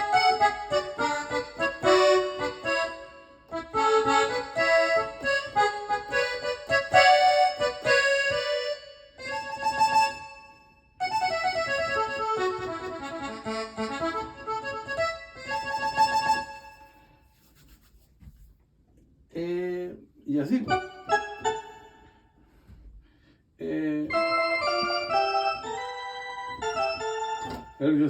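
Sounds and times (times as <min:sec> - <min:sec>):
accordion melody on keyboard: 0:00.0 - 0:17.2, 0:20.4 - 0:22.3, 0:23.8 - 0:28.0.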